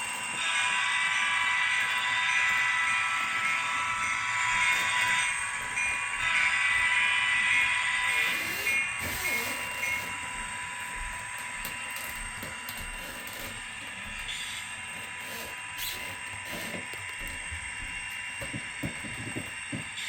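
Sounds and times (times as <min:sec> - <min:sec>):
constant tones: 0:00.0 - 0:20.0
model train electric hum: 0:00.0 - 0:20.0.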